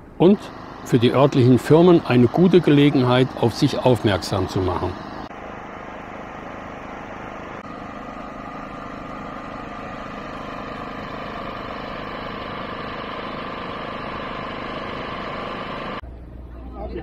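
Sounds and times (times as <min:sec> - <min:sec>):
machine humming steadily: 0:00.0 - 0:17.0.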